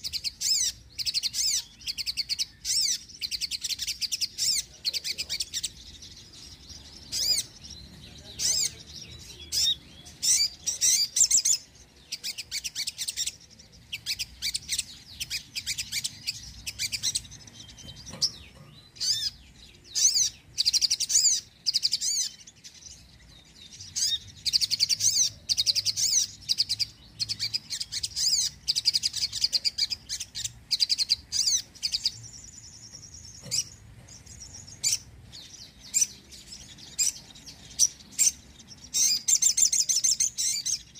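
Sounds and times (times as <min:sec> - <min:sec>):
bird twittering song: 0:00.0 - 0:40.9.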